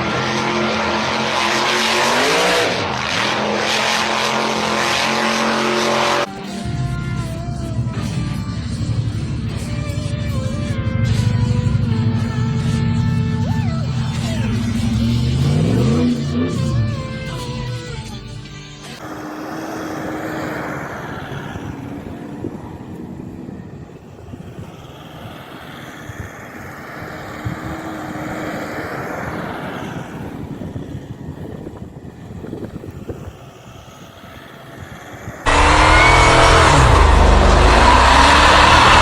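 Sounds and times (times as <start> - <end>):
off-road vehicle engine rumble: 0.0 - 39.0.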